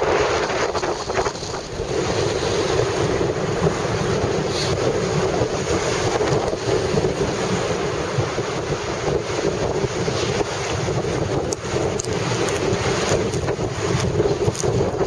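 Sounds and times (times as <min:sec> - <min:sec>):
heavy surf rushing: 0:00.0 - 0:15.0
wind buffeting microphone: 0:00.0 - 0:15.0.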